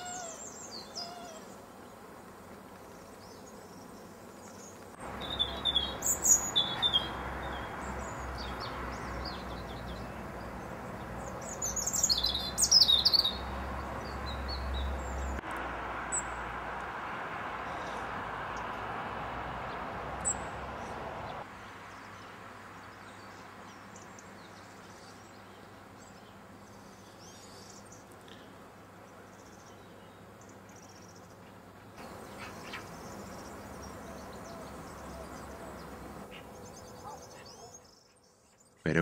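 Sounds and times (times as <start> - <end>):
small birds chirping: 0.0 - 15.4, 19.6 - 39.0
outdoor background hiss: 0.0 - 39.0.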